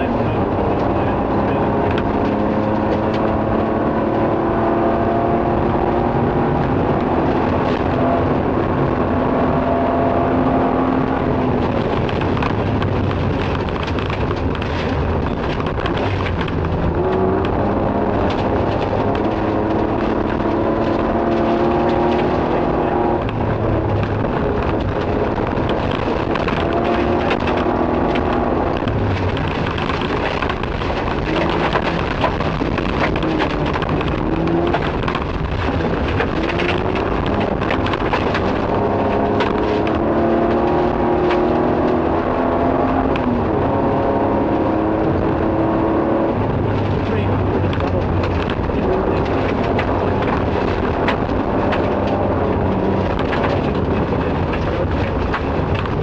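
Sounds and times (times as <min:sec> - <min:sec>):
car engine running hard: 0:00.0 - 0:56.0
gravel rattling against underbody: 0:05.9 - 0:56.0.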